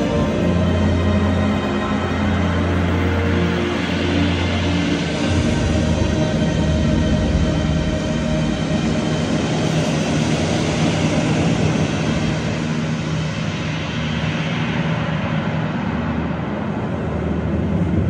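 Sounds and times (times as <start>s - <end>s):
low drone tones: 0.0s - 18.0s.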